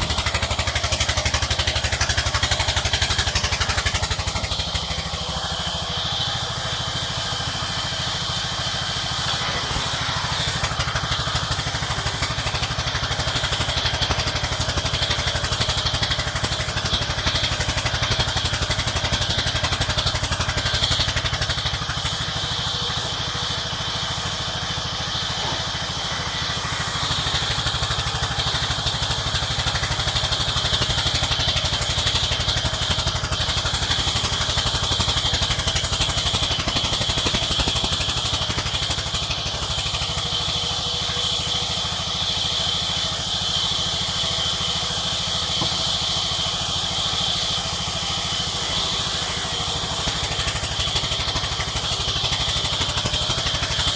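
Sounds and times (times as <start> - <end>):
sawmill engine chugging: 0.0 - 53.9.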